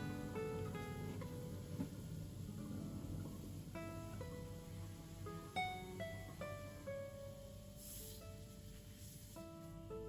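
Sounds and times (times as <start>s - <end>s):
acoustic guitar plucking: 0.0s - 8.6s.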